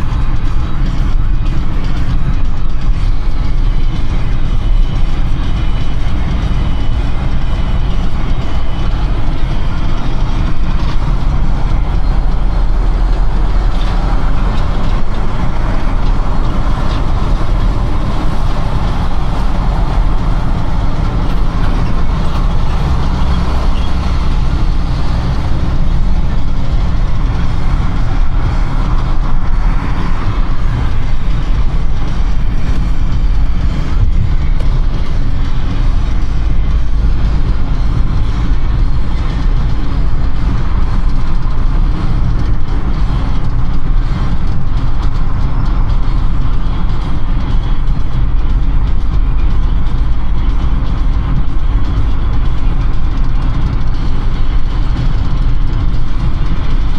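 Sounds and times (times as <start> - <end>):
car driving rumble: 0.0 - 56.9
road and tyre hiss: 0.0 - 56.9.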